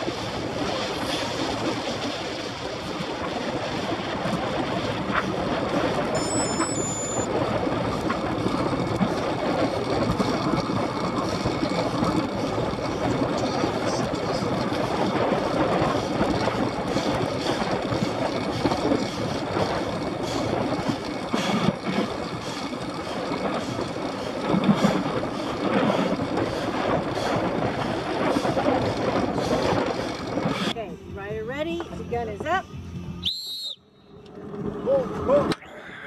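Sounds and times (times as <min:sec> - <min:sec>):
wind buffeting microphone: 0:00.0 - 0:06.3, 0:07.2 - 0:32.6.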